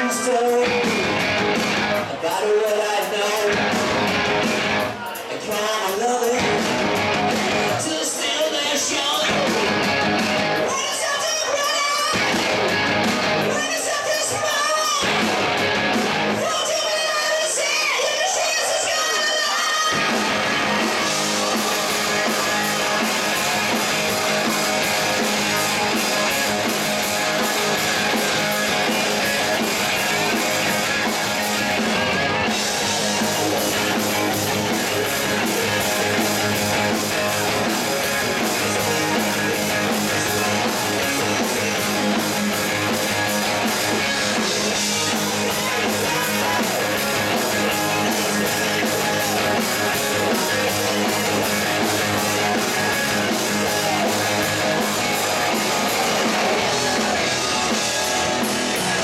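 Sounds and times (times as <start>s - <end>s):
drum kit: 0.0s - 11.0s, 12.1s - 16.7s, 19.9s - 59.0s
electric guitars: 0.0s - 59.0s.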